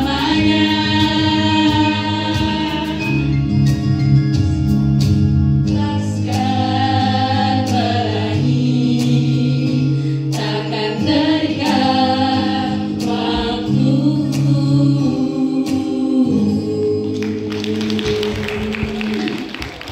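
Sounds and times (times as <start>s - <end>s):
group singing in chorus: 0.0s - 3.3s, 5.7s - 19.5s.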